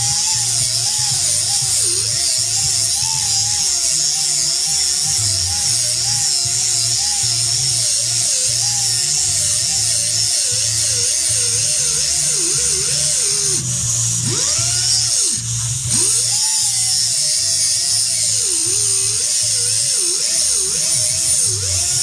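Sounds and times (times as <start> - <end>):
rotary tool whirring: 0.0 - 22.0.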